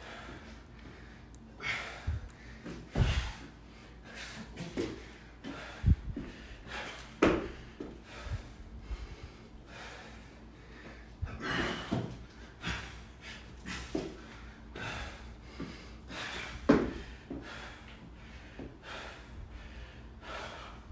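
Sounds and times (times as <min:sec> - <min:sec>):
man breathing hard: 0:00.0 - 0:20.9.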